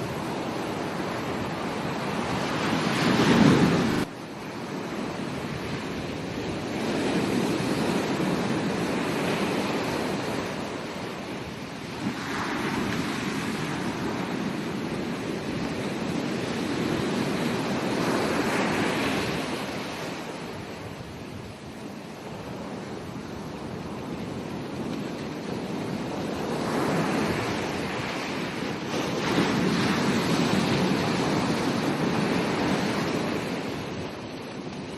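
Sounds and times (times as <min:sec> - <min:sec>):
ocean waves breaking on beach: 0:00.0 - 0:34.9.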